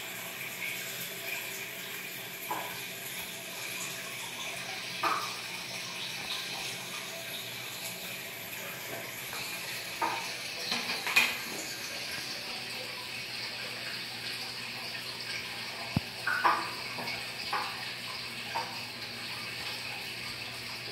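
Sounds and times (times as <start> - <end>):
filter water splashing and trickling: 0.0 - 20.9.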